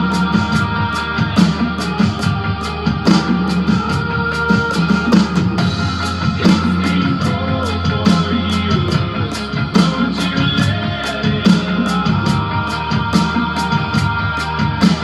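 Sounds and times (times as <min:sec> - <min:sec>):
electronic drum kit playing: 0:00.0 - 0:15.0
rock song with guitar: 0:00.0 - 0:15.0.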